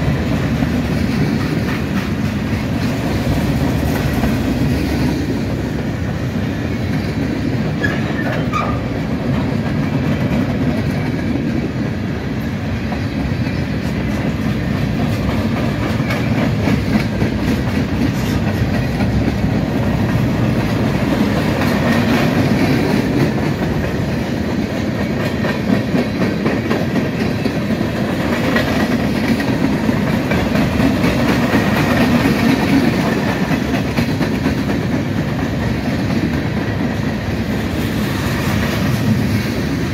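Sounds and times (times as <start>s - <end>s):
freight train cars rolling past: 0.0s - 39.9s.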